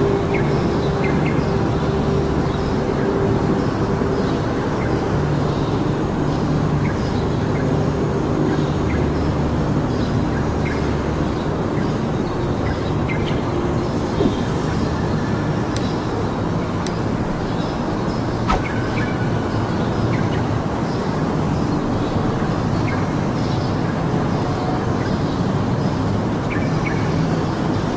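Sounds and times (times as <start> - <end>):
low mechanical engine rumble: 0.0 - 22.7.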